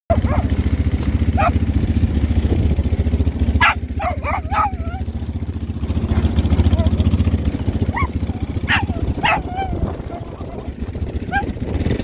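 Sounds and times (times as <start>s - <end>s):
dogs yelping: 0.1s - 1.9s, 3.5s - 12.0s
quad bike engine running: 0.1s - 12.0s.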